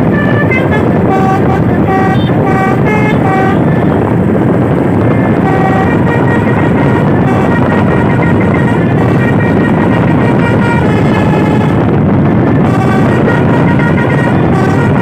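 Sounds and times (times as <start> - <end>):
road and engine noise: 0.0 - 15.0
truck horn playing melody: 0.0 - 15.0.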